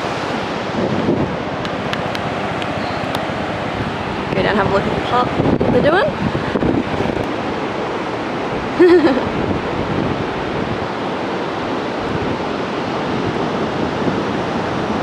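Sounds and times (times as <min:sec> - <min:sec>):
surf rushing: 0:00.0 - 0:15.0
wind noise on microphone: 0:00.0 - 0:15.0.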